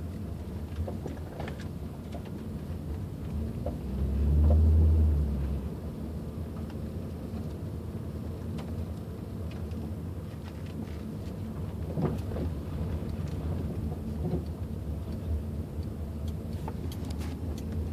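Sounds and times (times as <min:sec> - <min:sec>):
car engine low rumble: 0:00.0 - 0:17.9.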